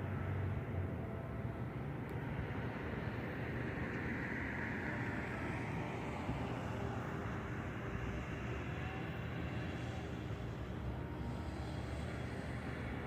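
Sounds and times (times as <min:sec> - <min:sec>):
traffic rumble: 0:00.0 - 0:13.0
passing vehicle tyre hiss: 0:02.4 - 0:13.0.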